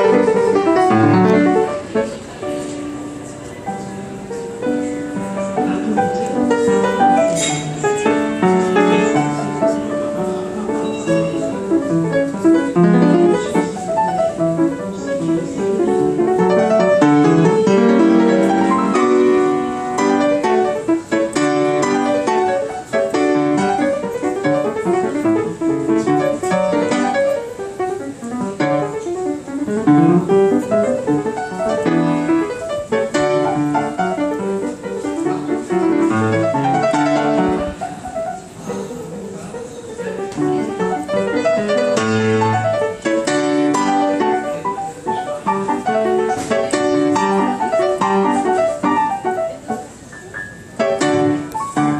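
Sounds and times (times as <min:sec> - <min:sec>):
solo piano playing a rag: 0:00.0 - 0:51.9.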